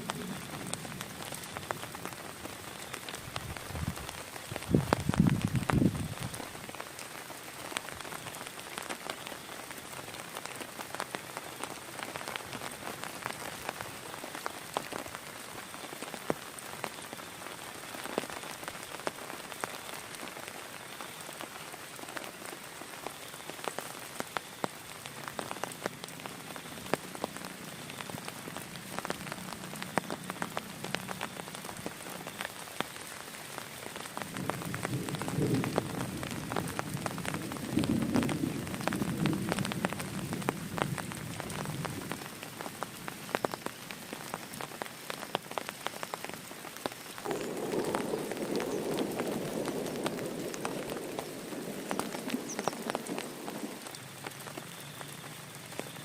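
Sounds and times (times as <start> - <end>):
heavy rain falling: 0.0 - 56.0
raindrops ticking close by: 0.0 - 56.0.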